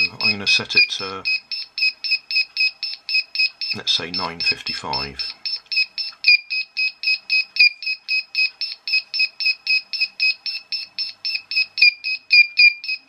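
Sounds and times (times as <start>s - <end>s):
short clock beeps: 0.0s - 13.0s.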